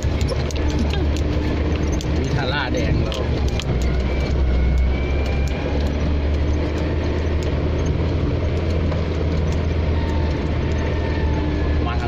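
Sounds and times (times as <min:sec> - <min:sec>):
small clicks and rattles: 0:00.0 - 0:11.1
off-road vehicle engine drone: 0:00.0 - 0:12.0.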